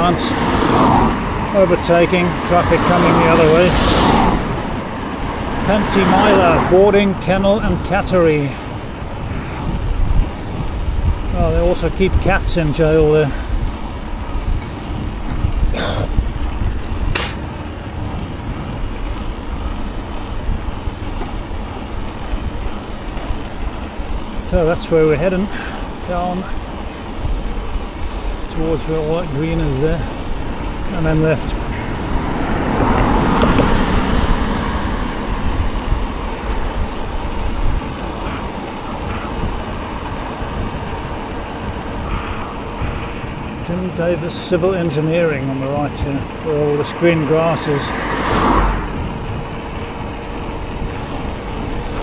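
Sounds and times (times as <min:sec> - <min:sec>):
car passing: 0:00.0 - 0:52.0
wind rumbling on microphone: 0:00.0 - 0:52.0.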